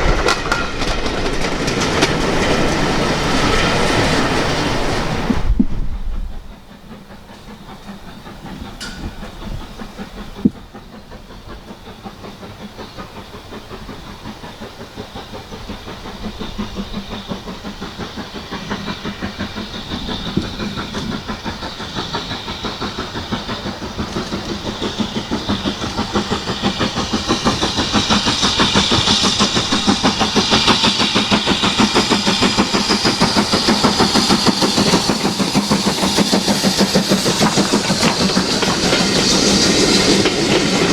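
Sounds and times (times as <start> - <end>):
steam locomotive exhaust beats: 0.0 - 40.9.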